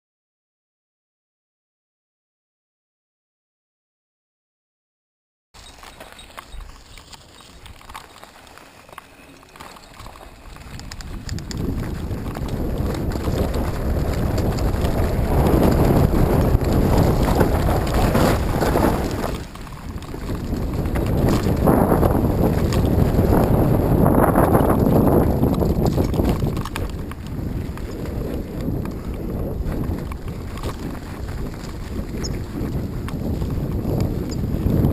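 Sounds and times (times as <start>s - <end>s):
wind rumbling on microphone: 5.6s - 34.9s.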